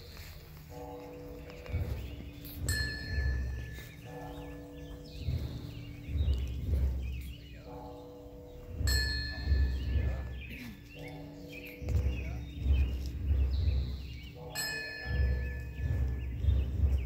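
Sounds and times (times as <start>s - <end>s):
high clear bell ringing: 0.0s - 16.9s
birds chirping faintly: 0.0s - 17.0s
deep thuds: 0.0s - 17.0s
lower-pitched bell ringing: 0.0s - 17.0s.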